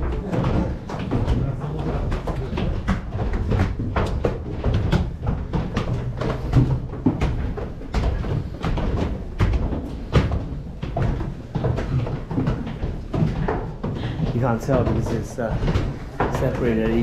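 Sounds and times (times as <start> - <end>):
footsteps on wooden stairs: 0.0 - 17.0.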